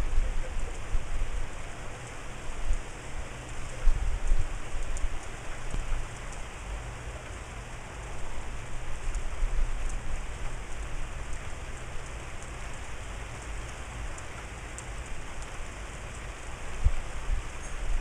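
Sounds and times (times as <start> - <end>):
rain falling on grass and leaves: 0.0 - 18.0.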